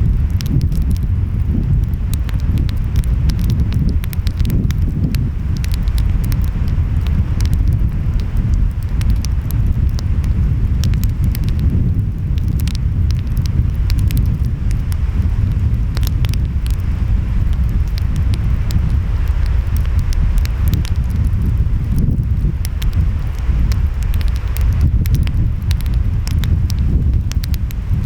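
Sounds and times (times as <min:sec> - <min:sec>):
wind: 0:00.0 - 0:28.0
wood fire crackling and popping: 0:00.0 - 0:28.0.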